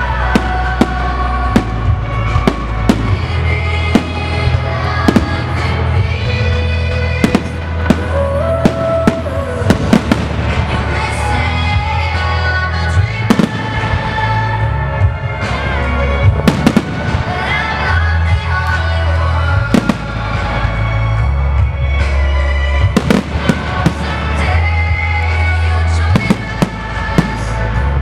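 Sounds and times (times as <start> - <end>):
loud music with bass: 0.0 - 28.0.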